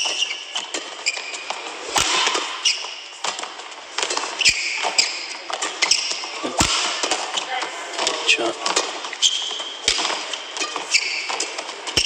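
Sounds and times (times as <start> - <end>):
large hall background noise: 0.0 - 12.0
racket hitting shuttlecock: 0.0 - 12.0
shoes squeaking on court: 0.0 - 12.0.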